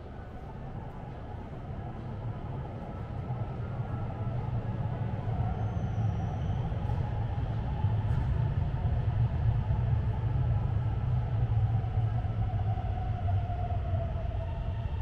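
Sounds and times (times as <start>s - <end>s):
underground train rumble: 0.0s - 15.0s.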